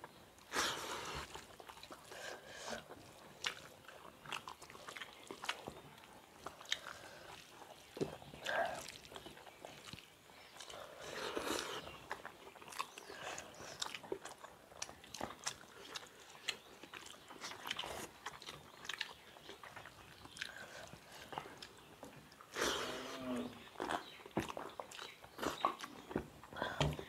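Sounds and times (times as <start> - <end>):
people chewing with wet smacking: 0.0 - 27.0.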